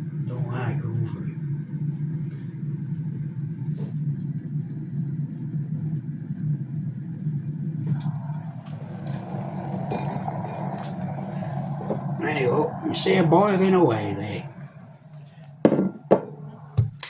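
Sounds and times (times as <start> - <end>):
kettle water boiling: 0.0 - 17.0.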